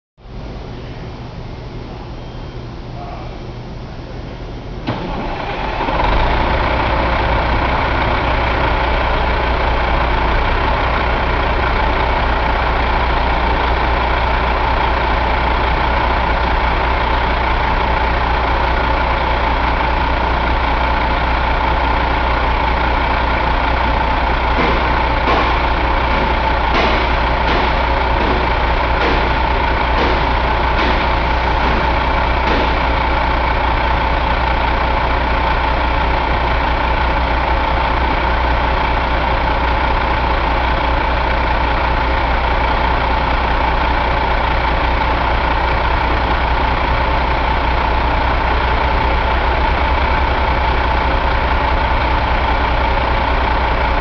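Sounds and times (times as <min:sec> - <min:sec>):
diesel engine idling: 0:00.2 - 0:54.0.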